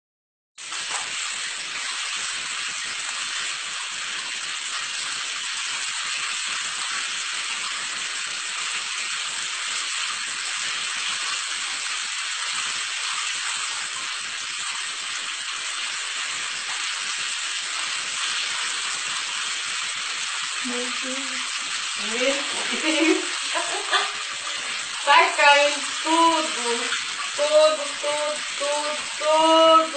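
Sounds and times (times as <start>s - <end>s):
shower water running: 0.6s - 29.9s.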